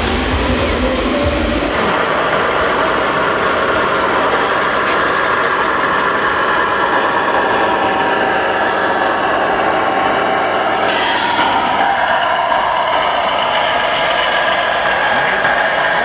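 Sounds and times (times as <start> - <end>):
electronic model engine sound: 0.0 - 16.0
hall noise: 0.0 - 16.0.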